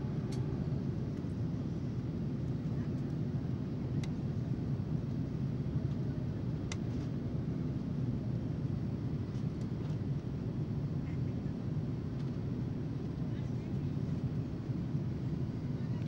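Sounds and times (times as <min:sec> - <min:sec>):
jet airliner cabin rumble: 0:00.0 - 0:16.0.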